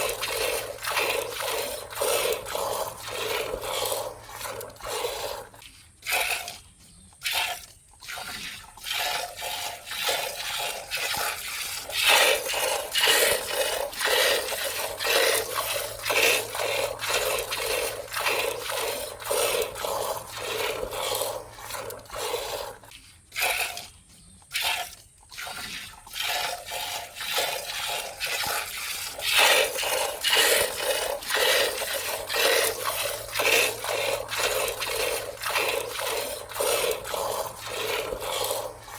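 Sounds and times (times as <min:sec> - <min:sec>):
milk squirting into pail: 0:00.0 - 0:38.9.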